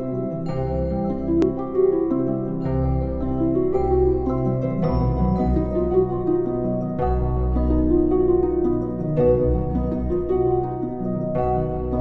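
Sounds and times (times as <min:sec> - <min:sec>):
instrumental music of ringing notes: 0:00.0 - 0:12.0.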